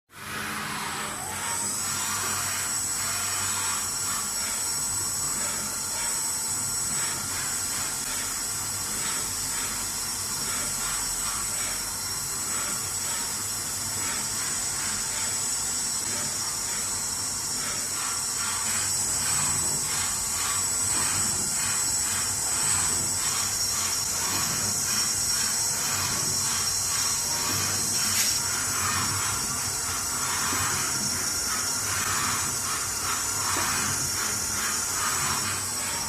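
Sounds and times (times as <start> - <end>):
machine high-pitched whine: 0.1 - 36.0.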